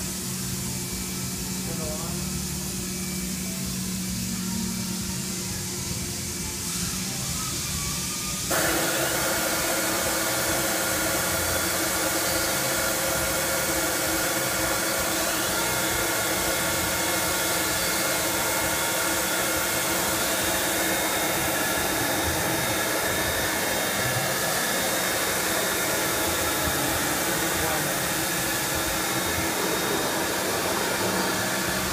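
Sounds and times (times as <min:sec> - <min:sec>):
cnc router running: 0:00.0 - 0:31.9.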